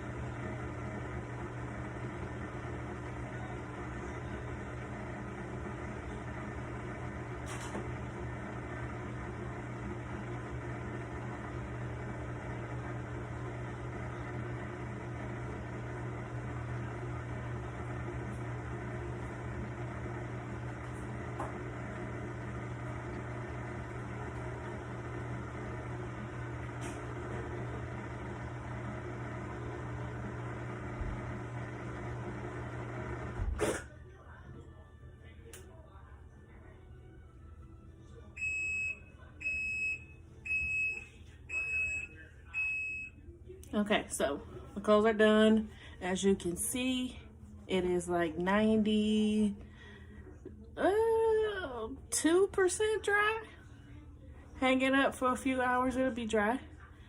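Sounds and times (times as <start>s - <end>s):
washing machine motor hum: 0.0s - 34.4s, 37.2s - 57.0s.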